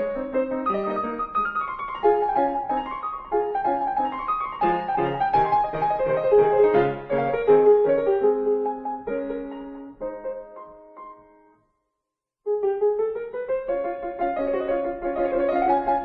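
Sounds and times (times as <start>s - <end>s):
piano music: 0.0s - 11.6s, 12.5s - 16.0s.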